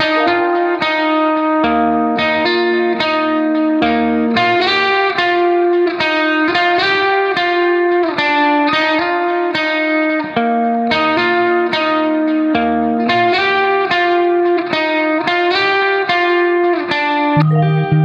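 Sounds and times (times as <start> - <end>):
plucked guitar melody: 0.0 - 18.0.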